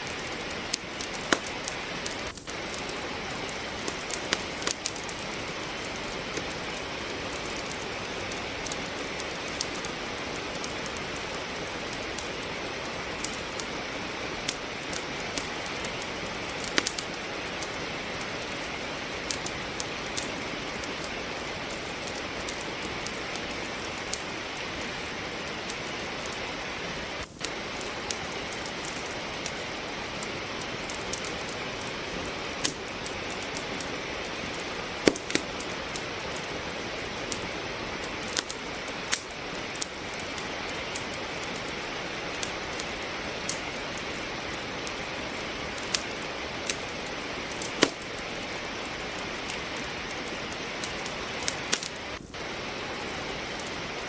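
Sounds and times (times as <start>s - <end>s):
steady rainfall: 0.0s - 54.0s
wood fire crackling: 0.0s - 54.0s.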